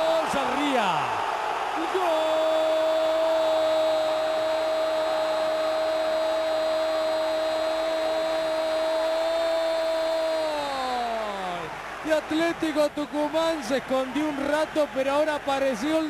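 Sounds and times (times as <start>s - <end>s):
commentator's long held shout: 0.0s - 16.0s.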